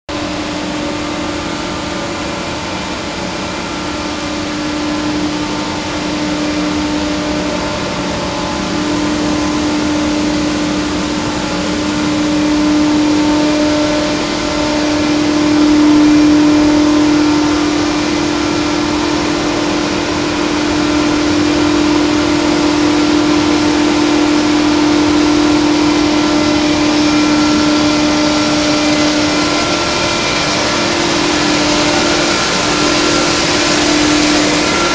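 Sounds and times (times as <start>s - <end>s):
extrusion machinery hum: 0.1s - 34.9s.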